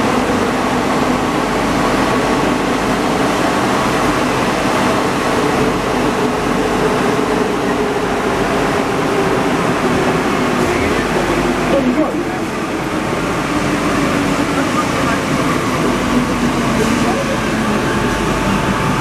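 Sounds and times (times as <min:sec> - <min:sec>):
metro train running noise: 0:00.0 - 0:19.0.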